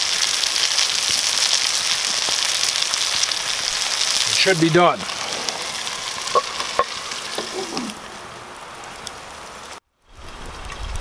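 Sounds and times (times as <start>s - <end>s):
fish sizzling in butter: 0.0s - 10.4s.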